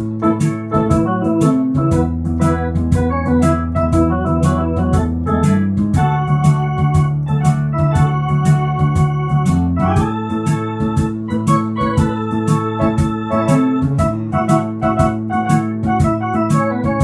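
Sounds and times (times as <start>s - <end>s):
electronic organ melody: 0.0s - 17.0s
shuffle drum rhythm: 0.0s - 17.0s.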